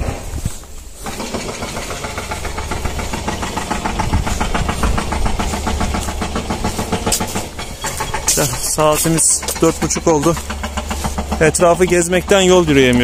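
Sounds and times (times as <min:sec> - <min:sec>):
engine knocking: 0:01.0 - 0:13.0.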